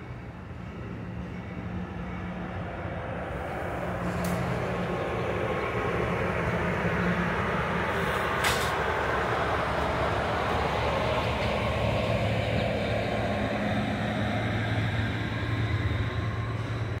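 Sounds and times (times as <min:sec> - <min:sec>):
diesel locomotive engine hum: 0:00.0 - 0:17.0
train wheels rumbling on rails: 0:00.0 - 0:17.0.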